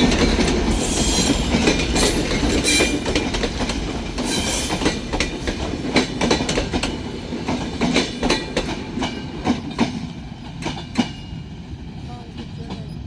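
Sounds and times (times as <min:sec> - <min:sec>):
train wheels clacking over rail joints: 0:00.0 - 0:11.4
train rumble: 0:00.0 - 0:13.0.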